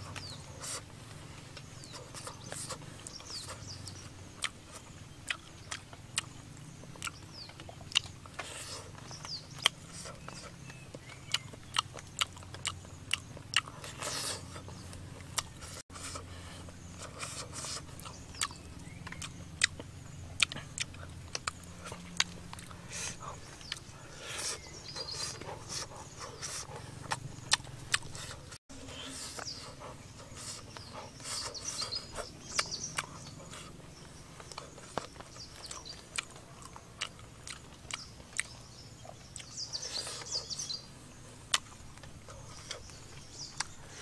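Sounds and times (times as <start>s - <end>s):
person chewing with lip smacking: 1.5s - 40.7s, 41.5s - 44.0s.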